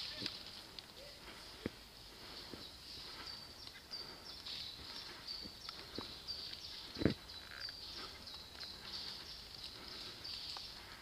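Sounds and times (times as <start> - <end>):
twigs and leaves crackling: 0.0 - 11.0.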